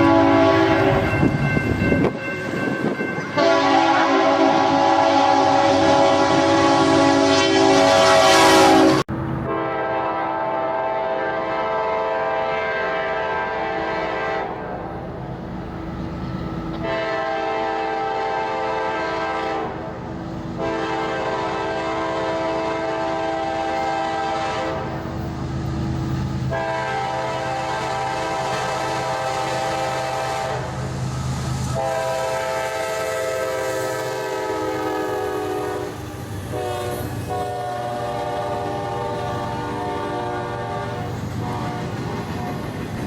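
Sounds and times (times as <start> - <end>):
locomotive air horn blasts: 0.0 - 14.8, 16.8 - 19.9, 20.6 - 25.2, 26.5 - 30.8, 31.7 - 42.8.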